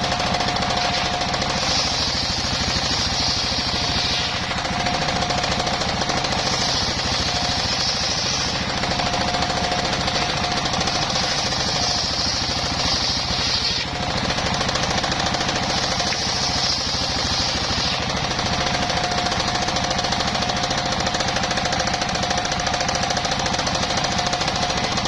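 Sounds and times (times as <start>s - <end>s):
saw blade rasping through wood: 0.0s - 25.0s
sawmill engine running: 0.0s - 25.0s.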